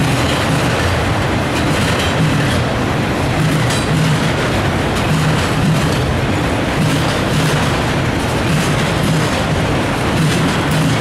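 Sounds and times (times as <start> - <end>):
freight cars rumbling on rails: 0.0 - 11.0.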